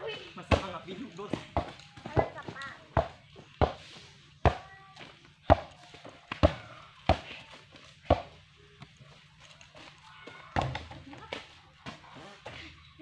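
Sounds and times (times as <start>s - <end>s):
basketball bouncing on dirt: 0.3s - 9.0s, 10.4s - 12.7s.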